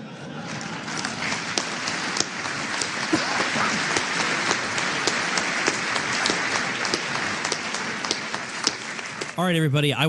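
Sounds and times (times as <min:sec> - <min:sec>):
audience applauding: 0:00.2 - 0:09.6.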